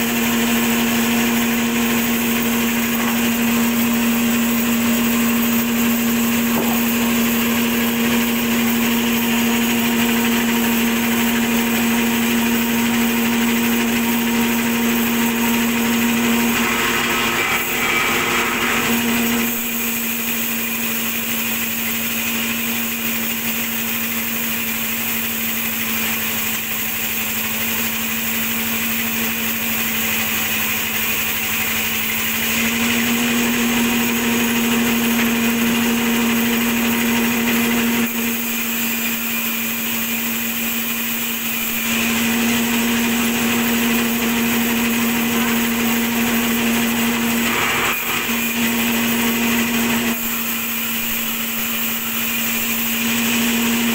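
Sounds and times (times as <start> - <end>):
band saw cutting a log: 0.0 - 53.9.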